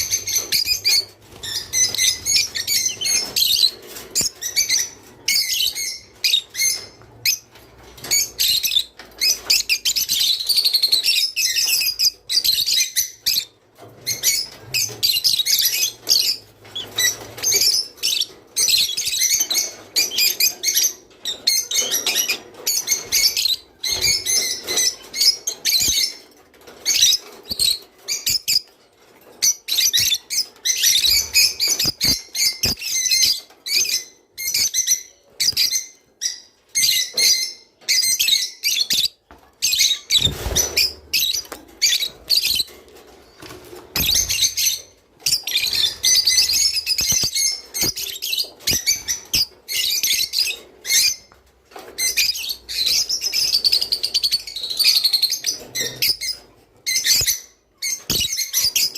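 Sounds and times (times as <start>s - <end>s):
lovebirds chirping and chattering: 0.0s - 58.9s.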